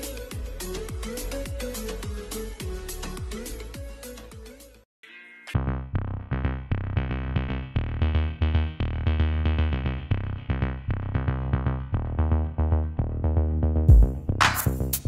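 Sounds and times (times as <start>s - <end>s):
electronic music with bass: 0.0s - 4.8s, 5.6s - 15.0s.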